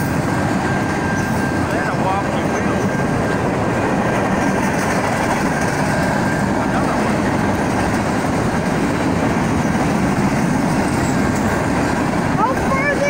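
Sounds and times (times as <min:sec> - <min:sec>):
freight train wheels clattering: 0:00.0 - 0:13.0.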